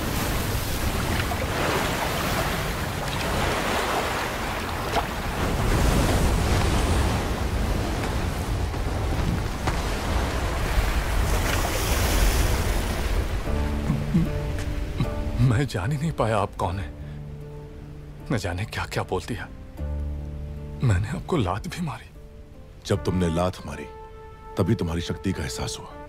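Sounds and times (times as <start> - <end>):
rushing water: 0.0 - 26.0
wind: 0.0 - 26.0.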